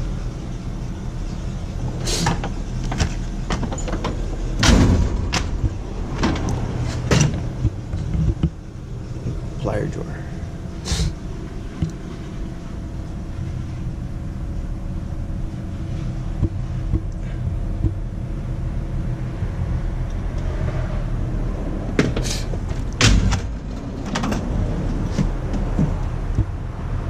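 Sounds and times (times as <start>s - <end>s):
faint hum: 0.0s - 27.0s
low background rumble: 0.0s - 27.0s.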